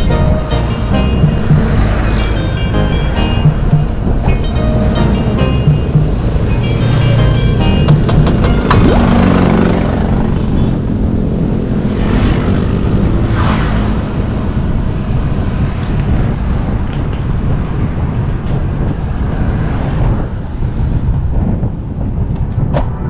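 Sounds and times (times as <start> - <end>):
engine hum: 0.0 - 22.5
road traffic: 0.0 - 23.0
wind rumbling on microphone: 0.0 - 23.0.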